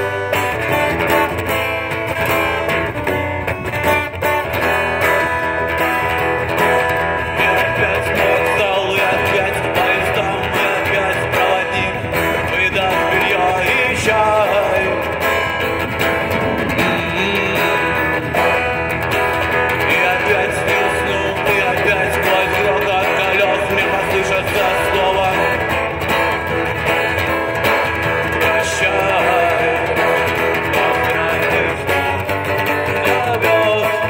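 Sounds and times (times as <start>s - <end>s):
guitar plucked and strummed: 0.0s - 34.0s.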